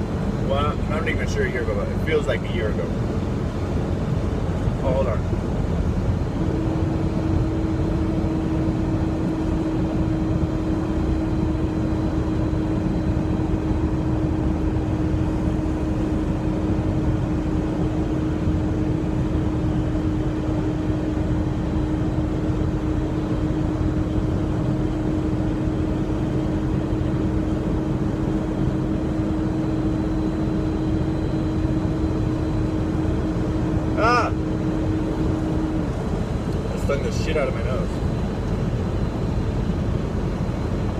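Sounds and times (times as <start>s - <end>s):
truck cab engine and road rumble: 0.0s - 40.9s.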